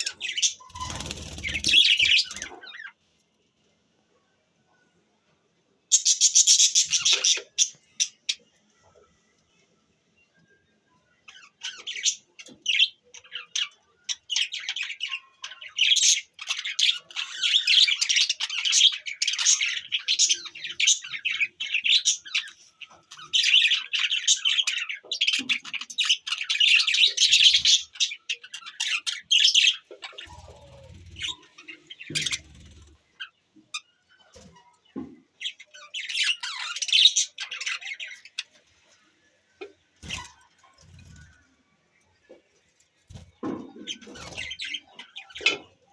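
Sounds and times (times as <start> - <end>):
budgies chirping and squawking: 0.0 - 3.0, 5.9 - 8.4, 11.3 - 41.5, 43.1 - 45.9.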